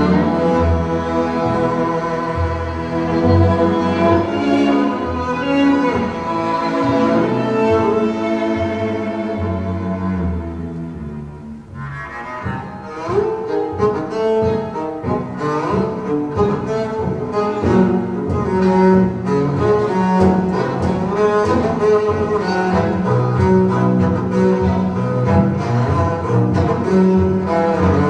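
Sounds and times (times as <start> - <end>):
string orchestra over loudspeakers: 0.0 - 28.0.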